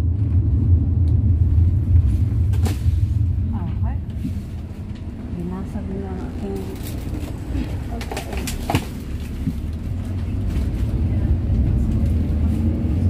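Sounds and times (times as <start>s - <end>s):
vehicle rumble inside cabin: 0.0s - 13.0s.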